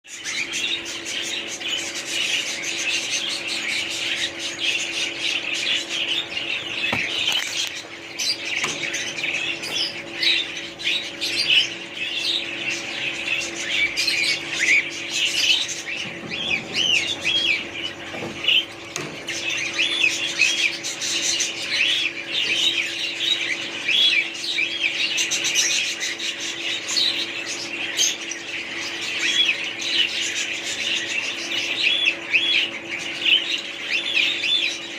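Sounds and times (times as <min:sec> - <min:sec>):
small birds chirping and squawking: 0:00.0 - 0:34.9
steady low hum: 0:00.1 - 0:34.9.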